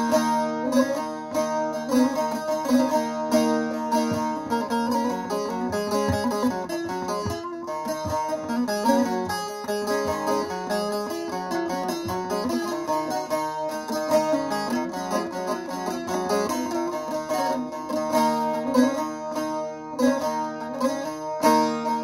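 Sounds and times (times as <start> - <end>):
long-necked lute picked melody: 0.0 - 22.0.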